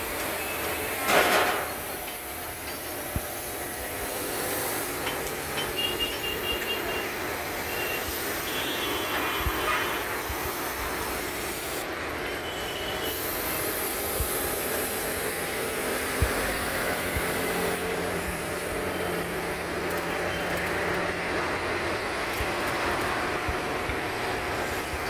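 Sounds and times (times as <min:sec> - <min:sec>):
road traffic drone: 0:00.0 - 0:25.0.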